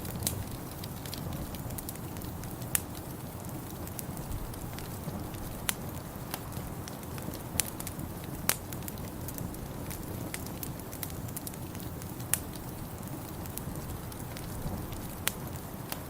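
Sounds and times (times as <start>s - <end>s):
low rumble of fire: 0.0s - 16.0s
wood fire crackling and popping: 0.0s - 16.0s.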